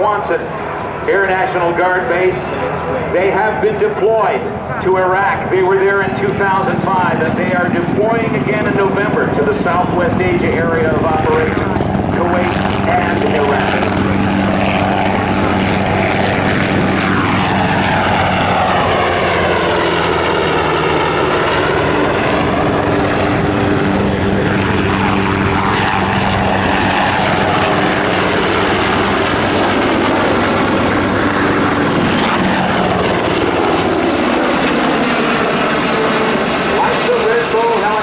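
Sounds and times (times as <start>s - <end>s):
helicopters flying past: 0.0s - 38.0s.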